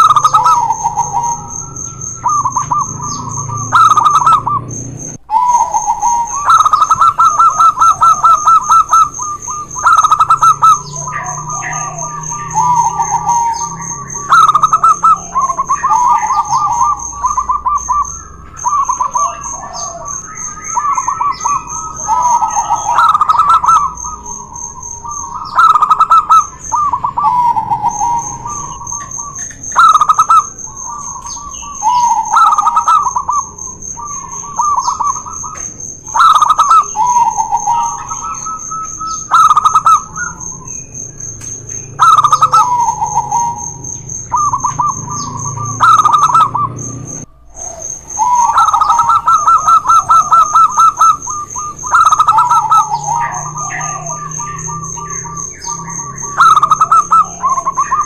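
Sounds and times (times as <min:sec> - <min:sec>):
doves cooing: 0:00.0 - 0:58.0
high-pitched pulsing whine: 0:00.0 - 0:58.0.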